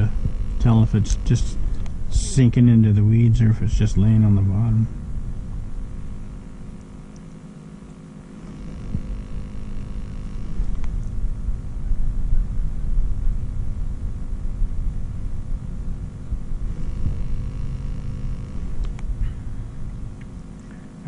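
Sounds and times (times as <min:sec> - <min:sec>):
low uneven rumble: 0:00.0 - 0:21.0
steady hum: 0:00.0 - 0:21.0.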